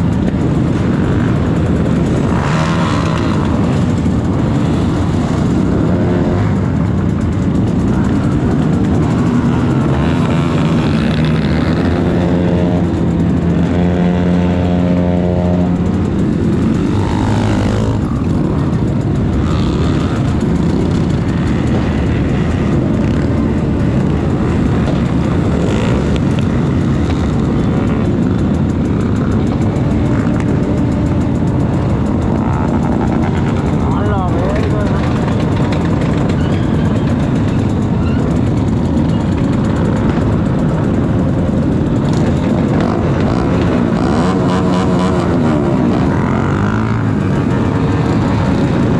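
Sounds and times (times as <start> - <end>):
continuous rushing noise: 0.0 - 48.9
motorcycle engine running: 0.0 - 48.9.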